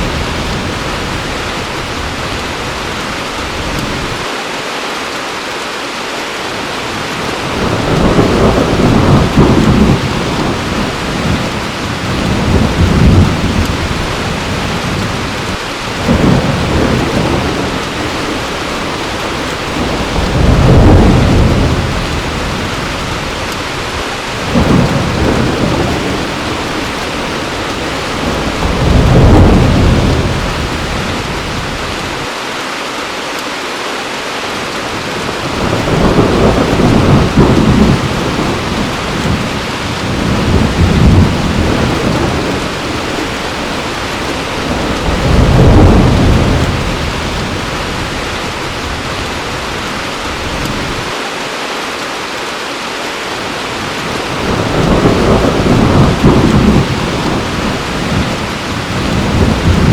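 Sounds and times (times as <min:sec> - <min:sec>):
thunder rumbling: 0:00.0 - 0:04.3, 0:06.9 - 0:32.3, 0:34.8 - 0:51.2, 0:53.6 - 0:59.9
heavy rain falling: 0:00.0 - 0:59.9.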